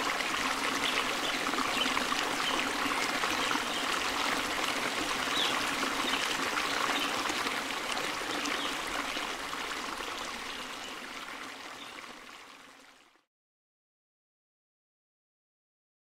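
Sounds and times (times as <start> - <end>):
rushing stream water: 0.0 - 13.1.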